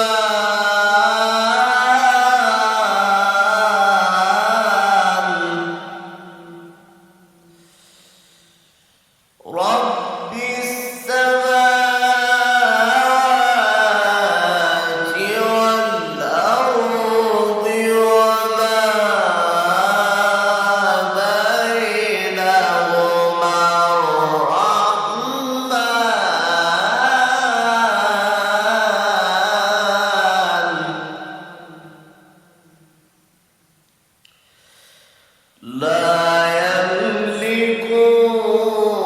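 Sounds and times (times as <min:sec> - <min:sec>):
man reciting melodically: 0:00.0 - 0:07.6, 0:09.4 - 0:32.8, 0:35.6 - 0:39.0.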